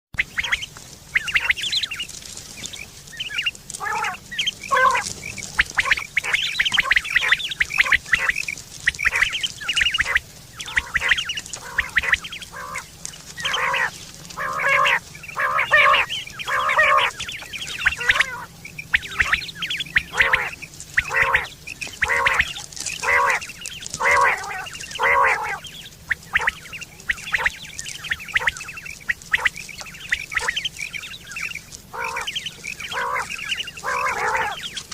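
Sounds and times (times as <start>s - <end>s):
quails calling: 0.2s - 34.9s.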